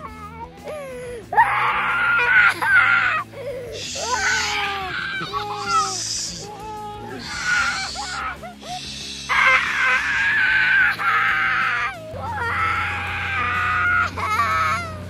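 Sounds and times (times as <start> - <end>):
soft background music: 0.0 - 15.0
young child wailing: 1.3 - 15.0.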